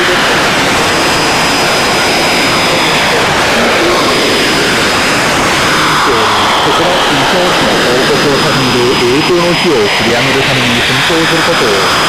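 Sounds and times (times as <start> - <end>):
faint radio announcer voice: 0.0 - 12.0
shortwave radio static: 0.0 - 12.0.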